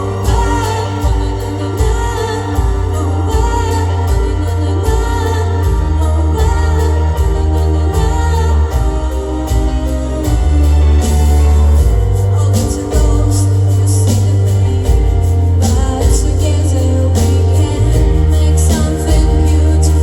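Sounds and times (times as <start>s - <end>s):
instrumental music with heavy bass: 0.0s - 20.0s
person singing: 0.0s - 20.0s.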